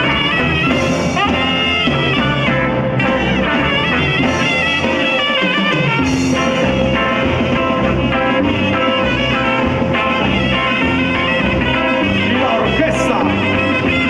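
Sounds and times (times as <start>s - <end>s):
bass guitar: 0.0s - 14.0s
drums: 0.0s - 14.0s
electric guitar: 0.0s - 14.0s
saxophones playing melody: 0.0s - 14.0s.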